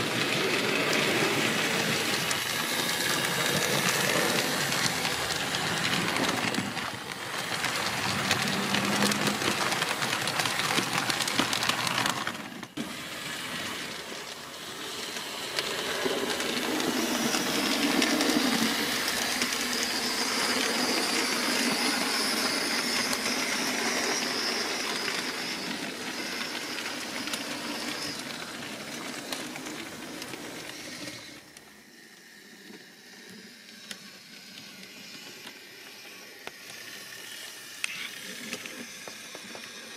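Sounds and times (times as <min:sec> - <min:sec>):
model train wheels rattling: 0:00.0 - 0:39.9.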